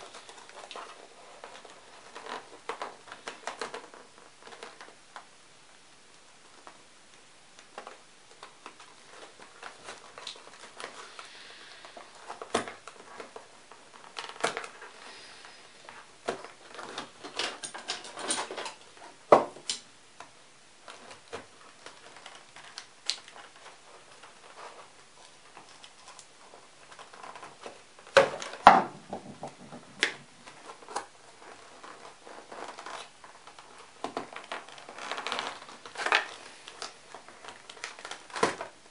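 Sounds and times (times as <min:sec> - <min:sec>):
packaging rustling: 0:00.0 - 0:05.3, 0:07.6 - 0:19.8, 0:20.8 - 0:38.9.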